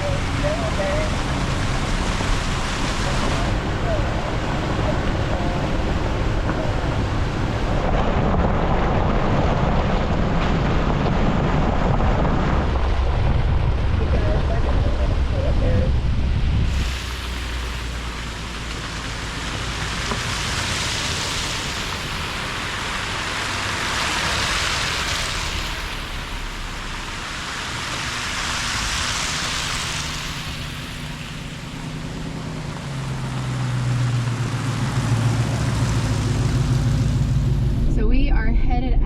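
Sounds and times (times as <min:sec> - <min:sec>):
rain and wet tyres hissing: 0:00.0 - 0:38.0
engine low hum: 0:00.0 - 0:39.0.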